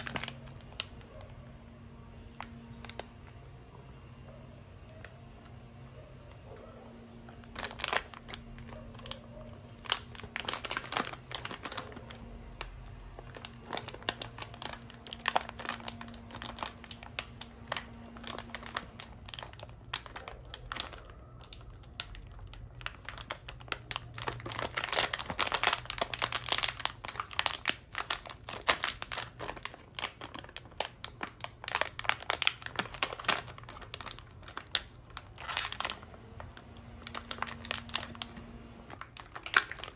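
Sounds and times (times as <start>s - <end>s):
plastic snack bag crinkling: 0.0s - 39.9s.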